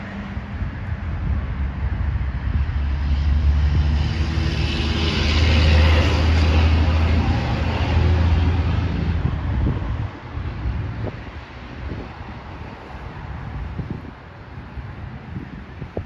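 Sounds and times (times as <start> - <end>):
vehicle passing: 0.0 - 15.6
wind rumble on microphone: 0.0 - 16.0.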